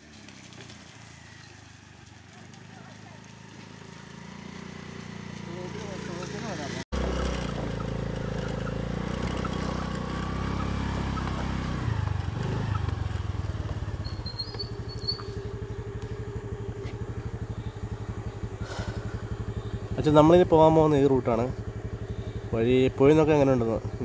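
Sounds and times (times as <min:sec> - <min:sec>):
scooter engine idling: 0:00.0 - 0:24.0.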